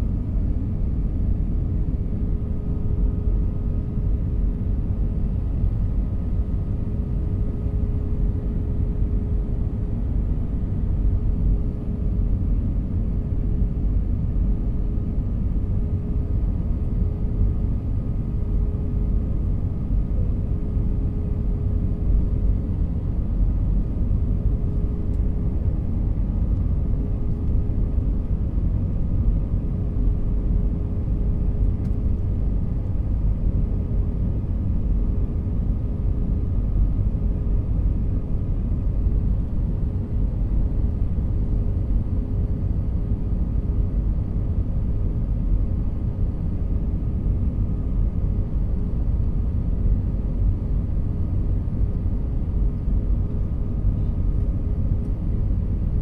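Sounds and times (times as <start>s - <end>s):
jet engines rumbling in cabin: 0.0s - 56.0s
steady hum: 0.0s - 56.0s.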